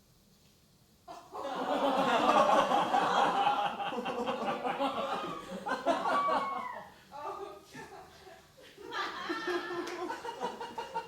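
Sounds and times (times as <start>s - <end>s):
audience laughing: 1.4s - 11.0s.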